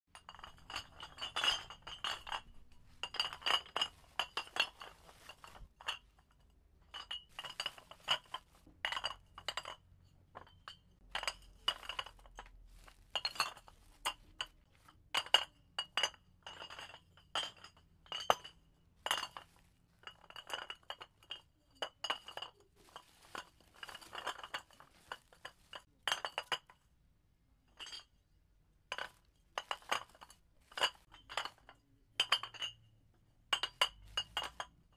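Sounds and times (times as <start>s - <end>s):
glass bottles clinking: 0.1s - 26.8s, 28.9s - 34.9s.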